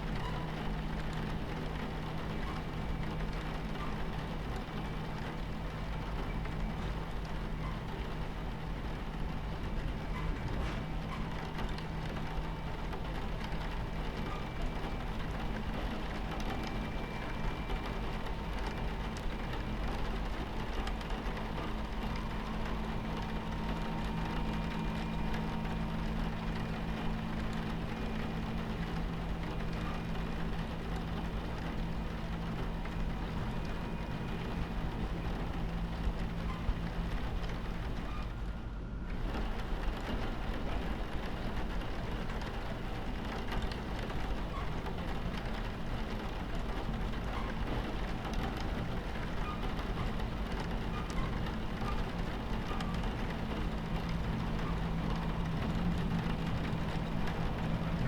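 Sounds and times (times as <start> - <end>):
rain pattering on window: 0.0 - 58.0
train rumbling on tracks: 0.0 - 58.0.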